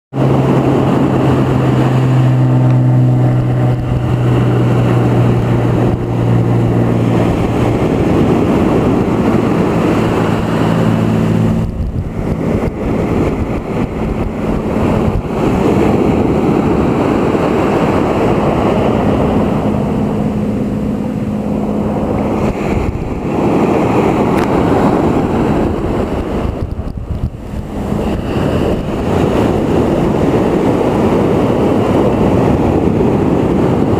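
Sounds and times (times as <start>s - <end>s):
low engine hum: 0.1s - 33.9s
wind buffeting microphone: 0.1s - 33.9s
sea waves washing onto shore: 0.2s - 33.9s.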